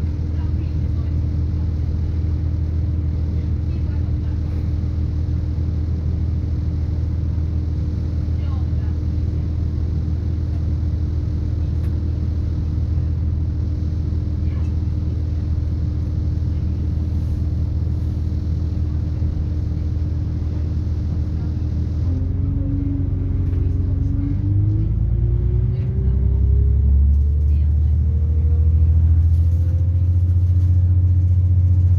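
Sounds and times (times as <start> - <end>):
transmission whine: 0.0 - 28.0
train diesel engine rumble: 0.0 - 31.9.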